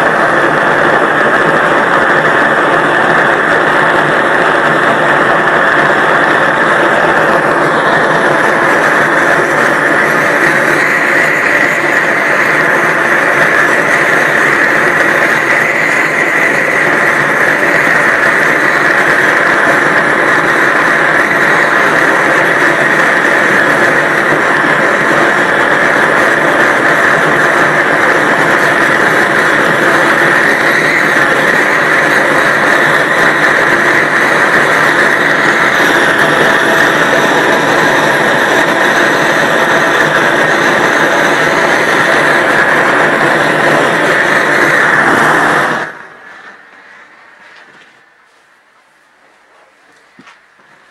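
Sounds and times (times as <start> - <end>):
gas torch hissing: 0.0 - 48.2.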